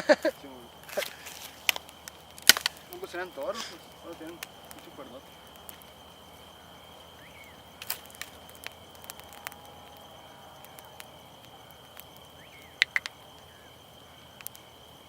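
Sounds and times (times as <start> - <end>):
campfire crackling: 0.0 - 15.0
insects droning: 0.0 - 15.0.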